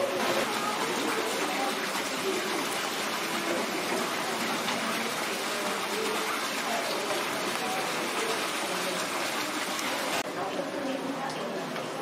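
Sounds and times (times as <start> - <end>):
faint distant voices: 0.0 - 12.0
running water rushing: 0.0 - 12.0.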